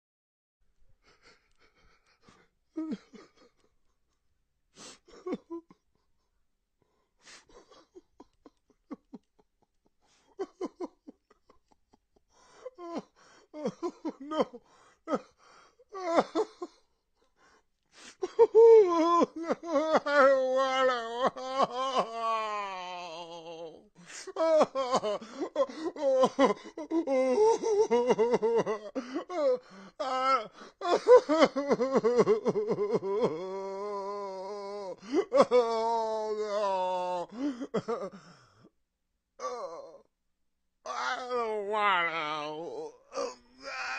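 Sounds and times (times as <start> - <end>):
man sobbing and wailing: 1.0 - 4.0, 4.8 - 6.3, 6.9 - 38.7, 39.4 - 40.1, 40.9 - 43.9.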